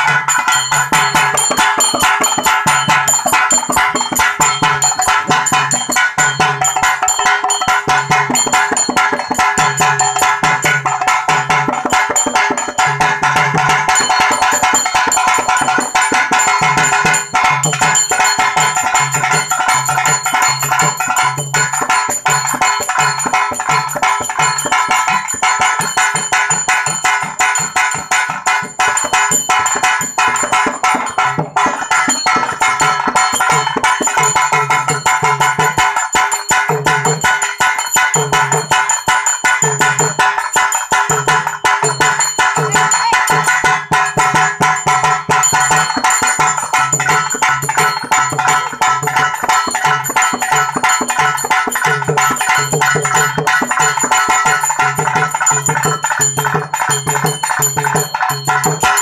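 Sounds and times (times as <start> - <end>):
barrel drum beating: 0.0 - 59.0.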